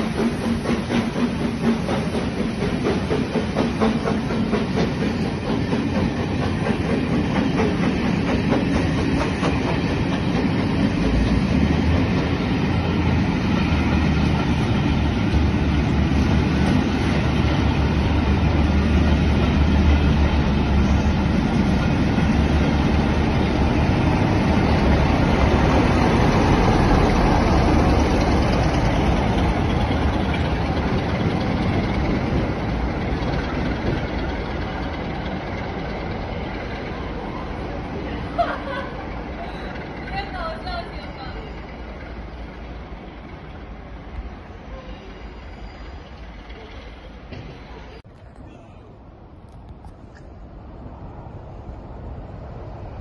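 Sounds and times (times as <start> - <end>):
locomotive engine hum: 0.0 - 53.0
train coaches rumbling and clacking: 0.0 - 53.0.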